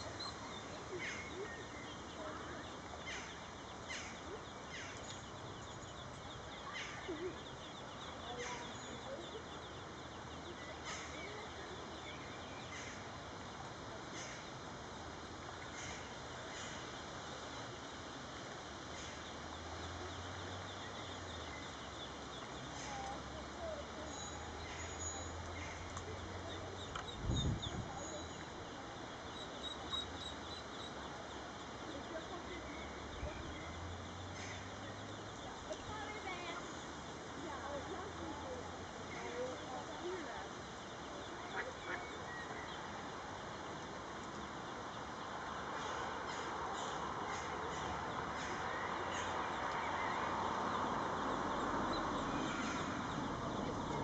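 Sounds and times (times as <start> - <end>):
ducklings peeping: 0.0 - 54.0
steady background noise: 0.0 - 54.0.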